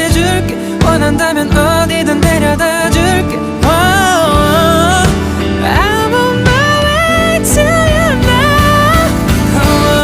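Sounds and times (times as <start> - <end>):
instrumental backing: 0.0 - 10.0
person singing melody: 0.0 - 10.0.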